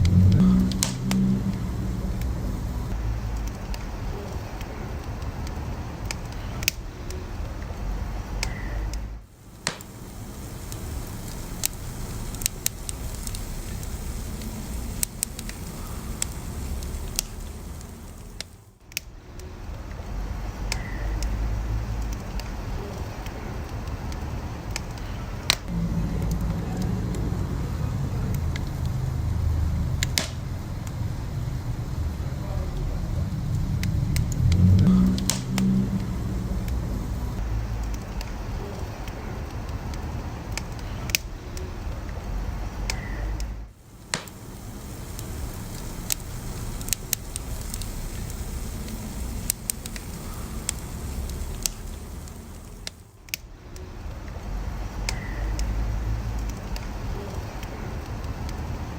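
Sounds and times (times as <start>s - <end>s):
burning logs crackling and popping: 0.0s - 58.9s
wood fire low rumble: 0.0s - 58.9s.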